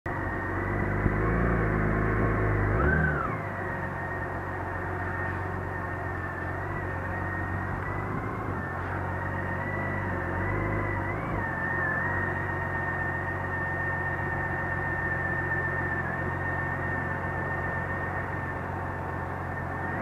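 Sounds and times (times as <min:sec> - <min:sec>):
high-pitched whine: 0:00.1 - 0:20.0
motorcycle engine at low revs: 0:00.1 - 0:20.0.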